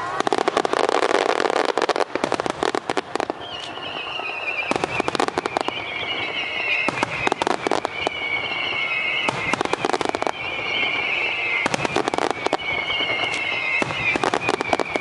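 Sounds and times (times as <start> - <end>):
fireworks crackling bangs: 0.0 - 15.0
high wavering whistle: 0.3 - 15.0.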